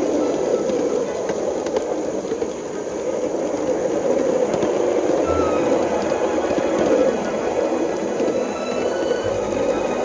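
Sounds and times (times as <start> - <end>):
steam locomotive rushing: 0.0 - 10.0.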